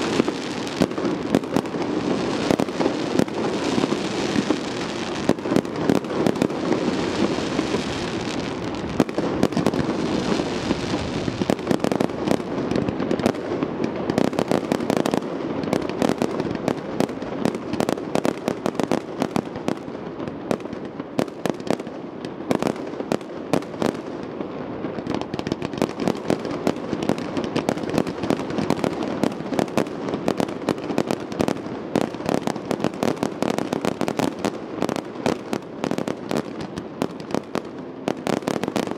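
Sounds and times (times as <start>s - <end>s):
firework shells bursting with crackle: 0.0s - 38.9s.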